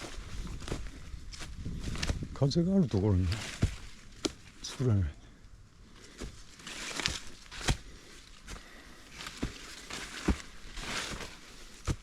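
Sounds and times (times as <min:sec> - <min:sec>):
footsteps on dirt trail: 0:00.0 - 0:05.0, 0:05.9 - 0:12.0.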